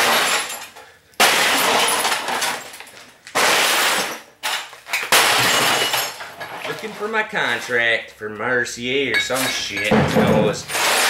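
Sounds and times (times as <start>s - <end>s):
glass breaking and clatter: 0.0s - 7.0s, 9.1s - 11.0s.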